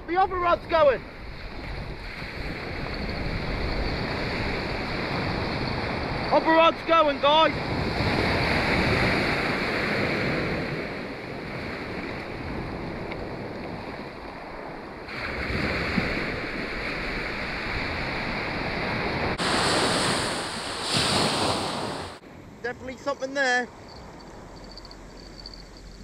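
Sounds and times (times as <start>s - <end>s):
wind on microphone: 0.0s - 22.9s
sea surf washing onto beach: 0.7s - 22.2s.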